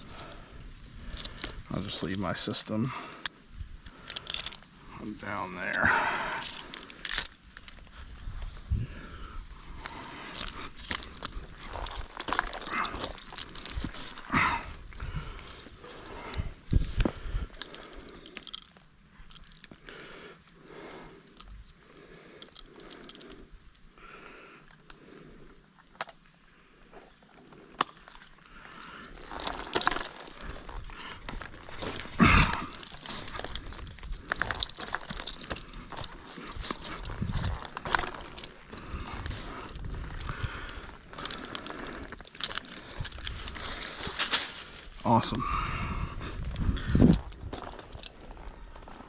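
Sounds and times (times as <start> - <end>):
metal hardware jangling and clinking: 0.0 - 7.9, 9.7 - 26.5, 29.0 - 44.6, 46.4 - 48.9.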